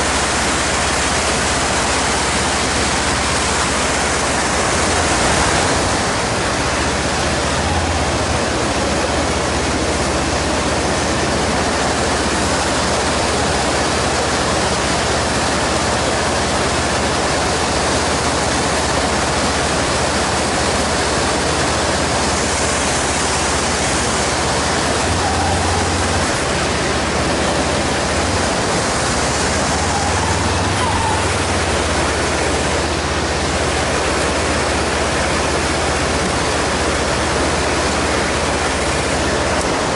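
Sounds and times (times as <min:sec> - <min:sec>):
river rushing over rapids: 0:00.0 - 0:39.9.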